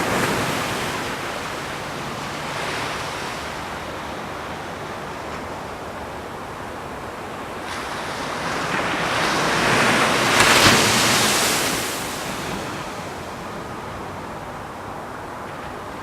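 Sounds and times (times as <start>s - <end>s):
ocean wave breaking: 0.0s - 16.0s.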